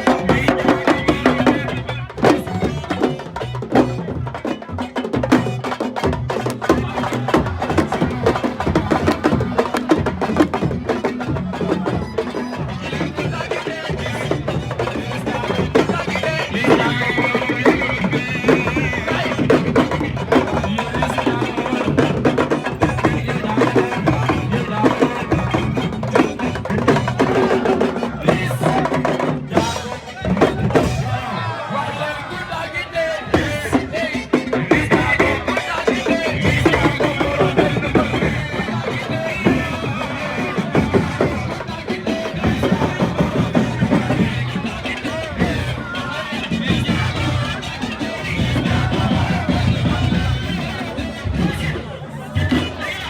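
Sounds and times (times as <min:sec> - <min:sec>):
fast percussion music: 0:00.0 - 0:53.0.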